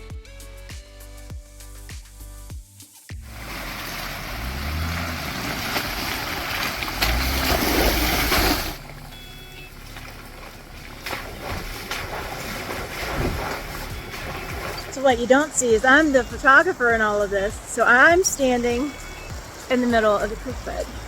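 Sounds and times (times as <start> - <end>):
car engine revving: 3.2 - 21.0
water splashing and rushing: 3.2 - 21.0.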